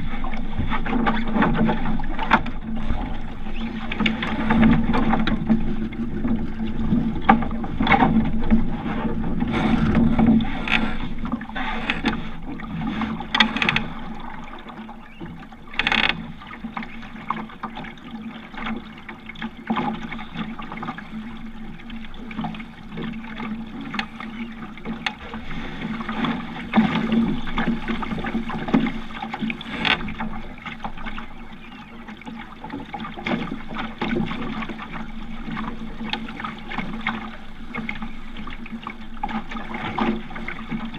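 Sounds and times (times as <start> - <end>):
knocks and clicks from boat: 0.0 - 40.9
water splashing against hull: 0.0 - 40.9.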